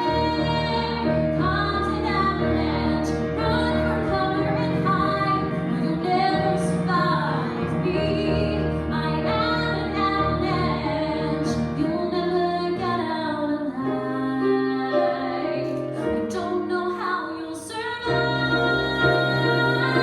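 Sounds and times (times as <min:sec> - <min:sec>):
woman singing a ballad: 0:00.0 - 0:20.0.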